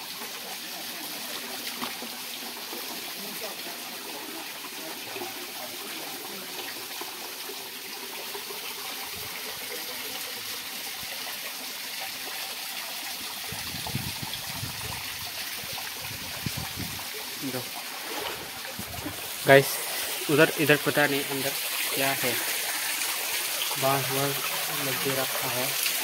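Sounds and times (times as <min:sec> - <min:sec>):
water falling and splashing: 0:00.0 - 0:26.0.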